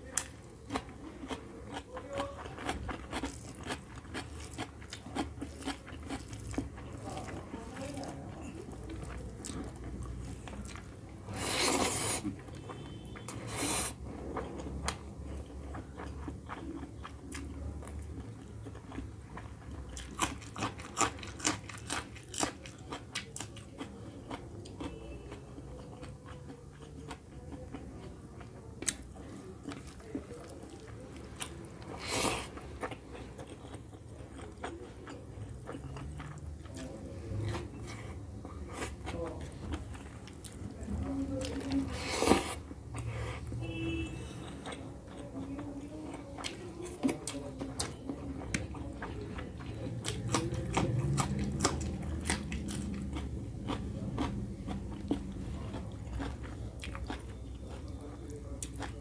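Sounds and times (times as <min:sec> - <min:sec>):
chewing food: 0:00.0 - 0:59.0.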